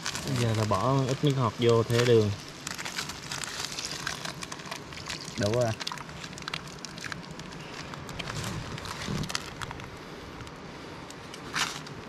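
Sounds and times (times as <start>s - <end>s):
steady hiss: 0.0s - 12.0s
wood fire crackling: 0.0s - 12.0s.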